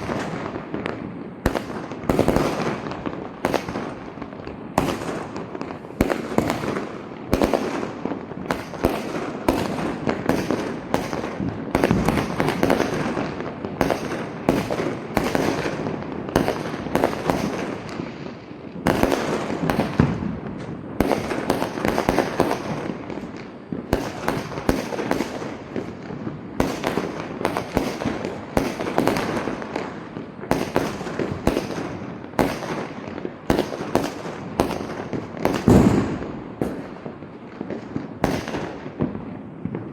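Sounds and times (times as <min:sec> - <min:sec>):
firecrackers banging and crackling: 0:00.0 - 0:39.9.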